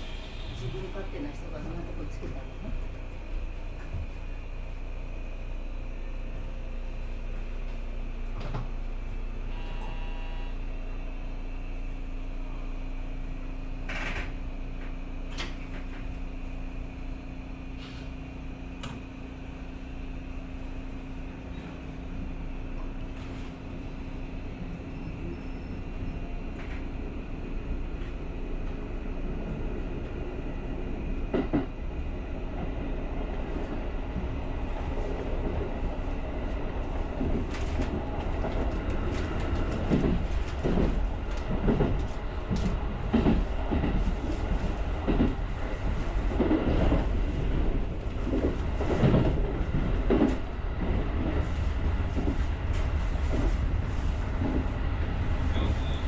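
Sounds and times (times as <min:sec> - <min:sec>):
train low rumble: 0:00.0 - 0:56.0.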